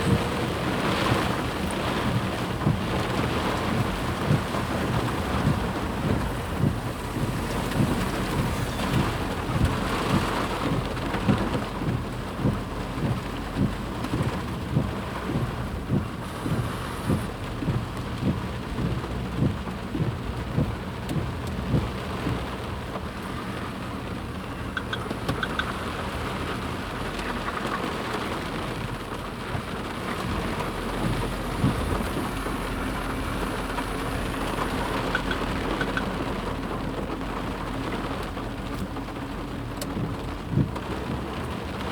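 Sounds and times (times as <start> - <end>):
rushing flood water: 0.0 - 41.9.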